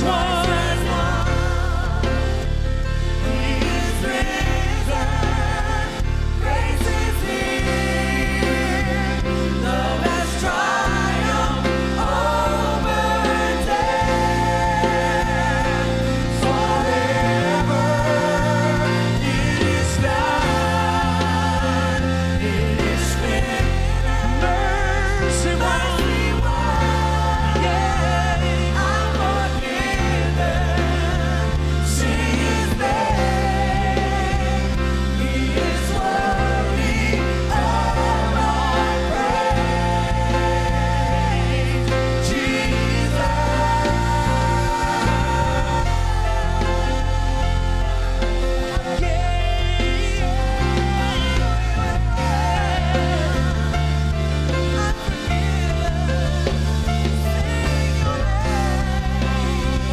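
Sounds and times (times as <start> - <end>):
choir singing gospel song: 0.0 - 59.9
low bass notes: 0.0 - 59.9.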